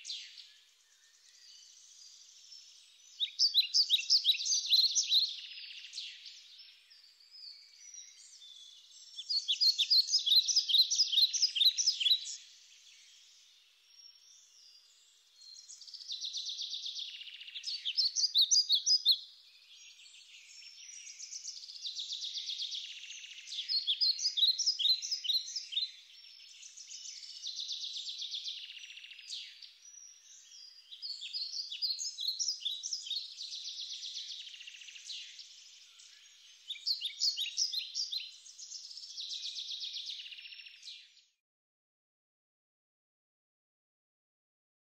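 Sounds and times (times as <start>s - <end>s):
songbird chirping: 0.0s - 41.4s.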